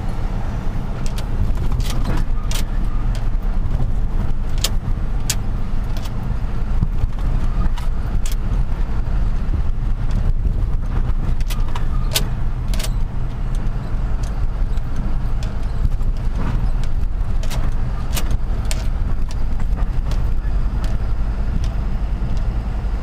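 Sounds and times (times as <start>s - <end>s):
truck engine droning: 0.0s - 23.0s
sharp rattling clicks: 0.9s - 22.8s.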